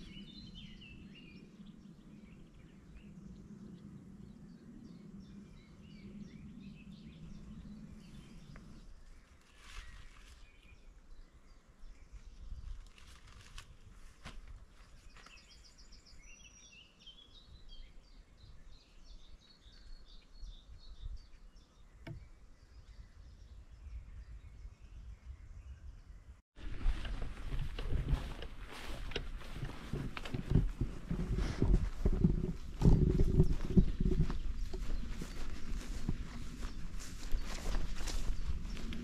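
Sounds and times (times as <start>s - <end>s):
songbirds chirping and trilling: 0.0s - 39.0s.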